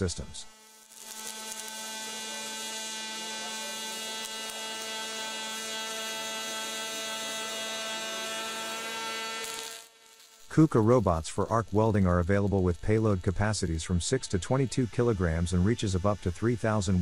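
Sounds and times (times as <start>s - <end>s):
welding arc buzzing and hissing: 0.0s - 17.0s.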